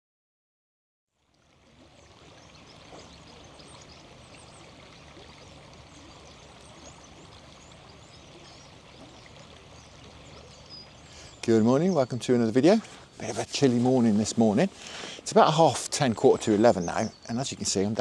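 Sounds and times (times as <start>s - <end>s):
river babbling over shallows: 1.2s - 18.0s.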